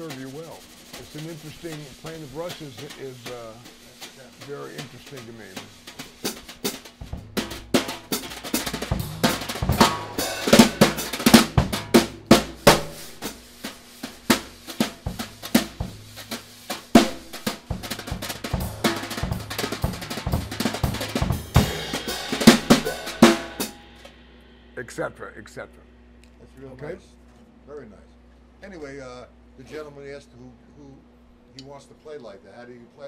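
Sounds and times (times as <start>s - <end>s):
drum kit played with brushes: 0.0s - 27.2s.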